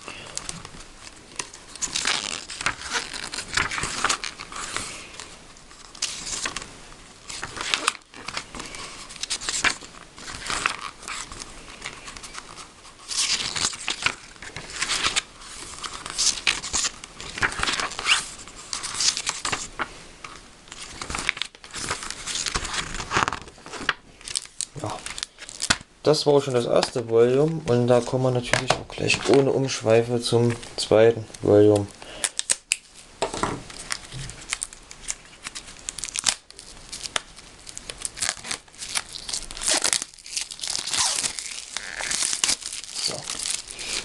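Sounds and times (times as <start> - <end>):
booklet pages turning: 0.3 - 29.7, 33.6 - 44.0.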